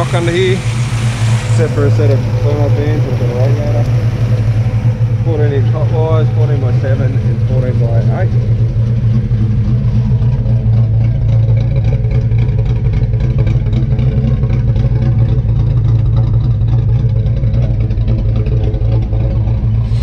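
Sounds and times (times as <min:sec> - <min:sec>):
engine idling with pulsing beat: 0:00.0 - 0:20.0.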